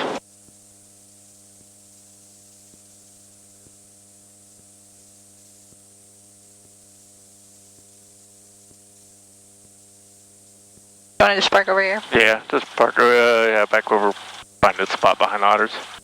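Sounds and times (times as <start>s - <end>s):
electrical hum with hiss: 0.0s - 16.0s.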